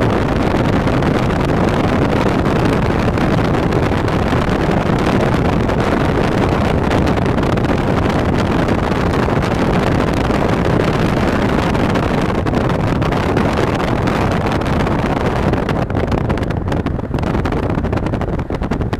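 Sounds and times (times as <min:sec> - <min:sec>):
car road noise: 0:00.0 - 0:18.9
wind rushing over microphone: 0:00.0 - 0:18.9.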